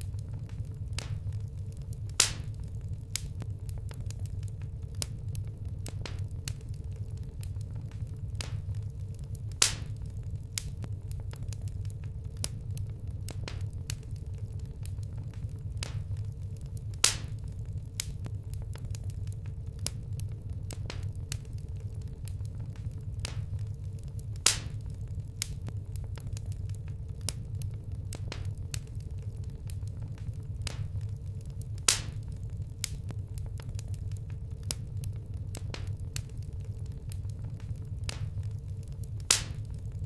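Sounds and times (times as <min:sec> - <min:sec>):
campfire crackling: 0:00.0 - 0:40.0
loud pops of fire: 0:00.0 - 0:40.0.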